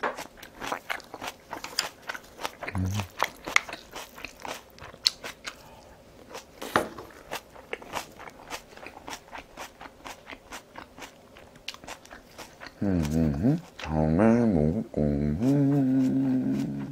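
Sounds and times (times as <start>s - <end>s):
crunchy wet chewing: 0.1s - 13.9s.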